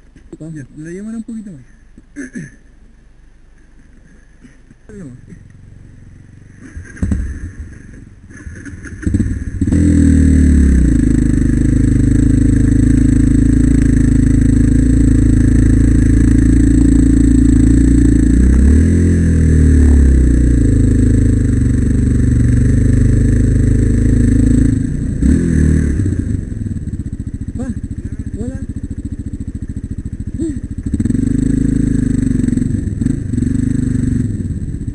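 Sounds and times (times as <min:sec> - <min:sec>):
motorcycle engine at steady revs: 0:03.2 - 0:34.9.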